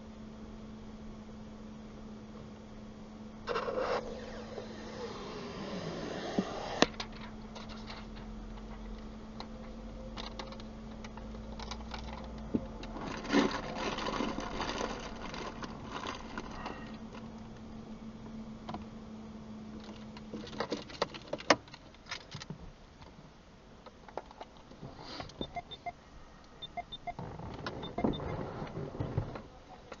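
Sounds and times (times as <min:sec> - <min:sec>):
steady hum: 0:00.0 - 0:27.2.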